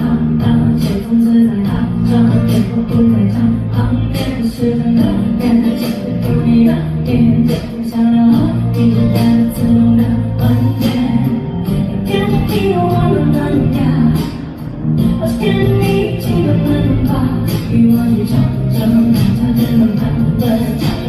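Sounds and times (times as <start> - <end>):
pop music with beat: 0.0 - 21.0.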